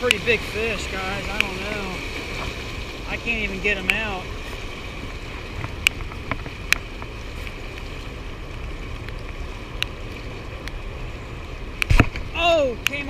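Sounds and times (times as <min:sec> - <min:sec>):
fast river water rushing: 0:00.0 - 0:13.0
wind: 0:00.0 - 0:13.0.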